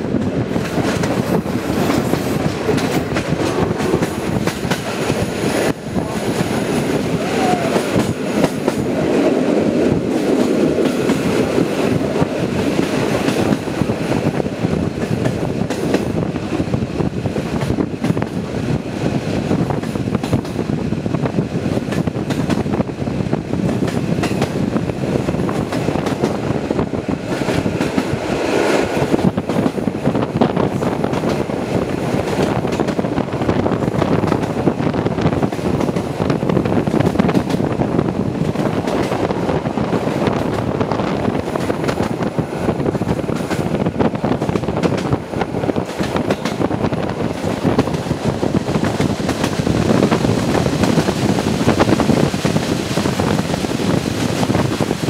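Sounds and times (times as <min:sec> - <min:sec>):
train wheels rumbling on rails: 0:00.0 - 0:55.0
wind buffeting microphone: 0:00.0 - 0:55.0.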